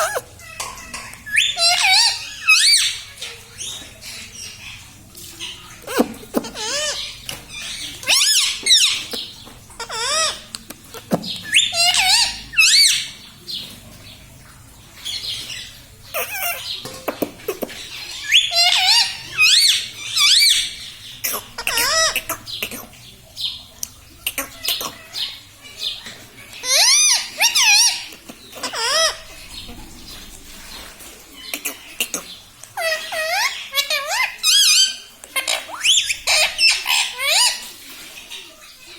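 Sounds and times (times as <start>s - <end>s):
parrot calling and chattering: 0.0s - 13.3s, 15.0s - 29.8s, 31.4s - 37.8s.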